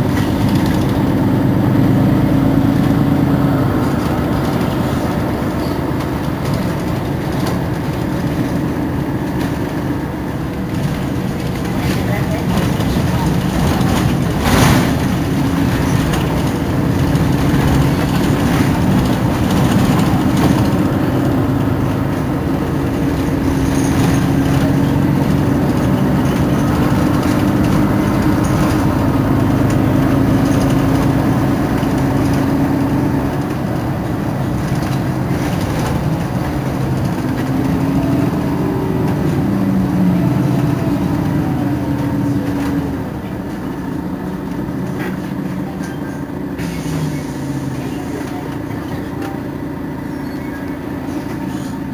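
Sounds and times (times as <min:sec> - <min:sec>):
bus engine droning: 0:00.0 - 0:51.9.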